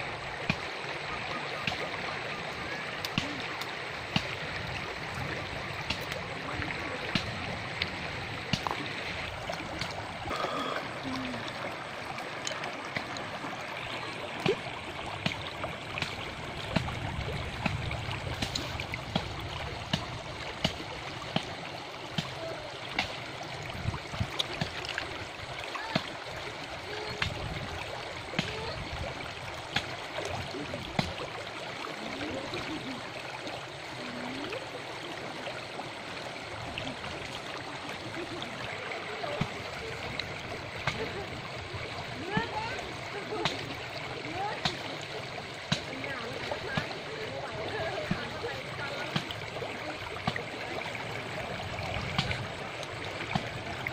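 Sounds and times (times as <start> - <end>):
river running over stones: 0.0 - 53.9.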